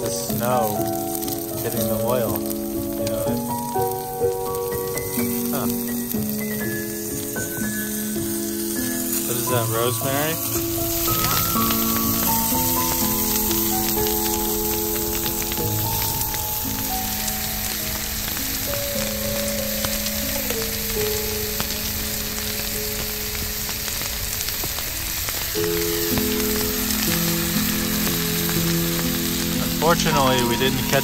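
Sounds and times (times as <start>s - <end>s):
mushrooms sizzling in oil: 0.0s - 31.0s
music of slow held notes: 0.0s - 31.0s.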